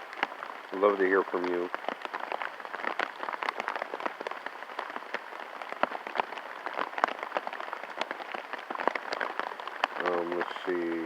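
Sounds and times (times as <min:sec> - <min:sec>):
rain patter: 0:00.0 - 0:11.0
raindrops tapping on surface: 0:00.0 - 0:11.0.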